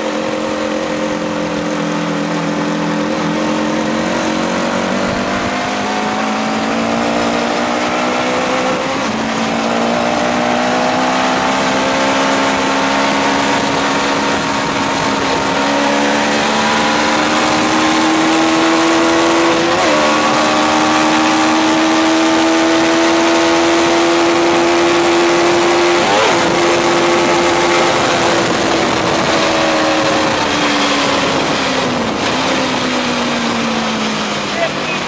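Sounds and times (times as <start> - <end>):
loud motorcycle engine revving: 0.0 - 35.0.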